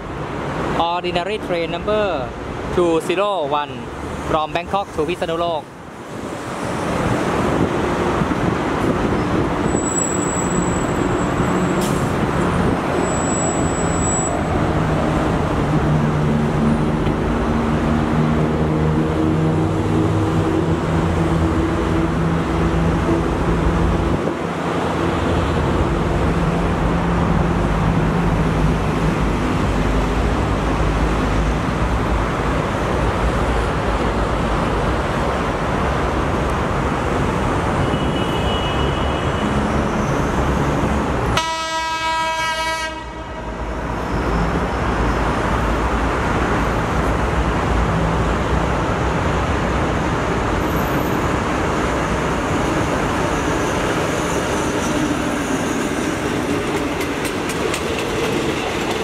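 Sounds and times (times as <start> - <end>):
traffic rushing noise: 0.0 - 59.0
diesel locomotive engine drone: 5.6 - 38.0, 39.2 - 59.0.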